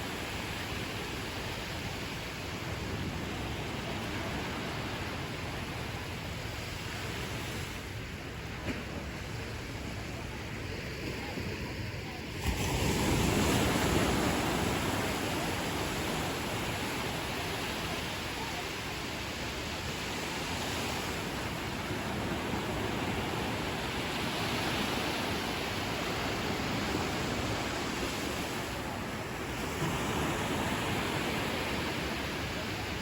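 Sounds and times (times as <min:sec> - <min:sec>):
ocean waves washing on beach: 0:00.0 - 0:33.0.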